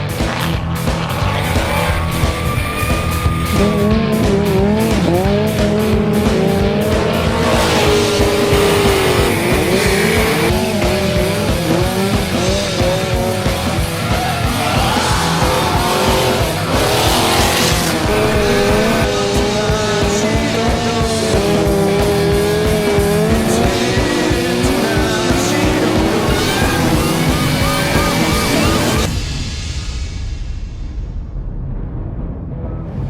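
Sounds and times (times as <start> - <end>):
car tyres squealing: 0.0 - 29.1
car engine revving: 0.0 - 29.2
rock music with drum beat: 0.0 - 31.4.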